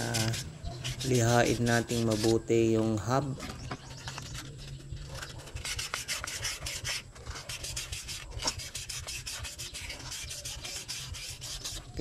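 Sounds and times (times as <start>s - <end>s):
sandpaper rasping on metal: 0.0s - 3.0s, 4.0s - 12.0s.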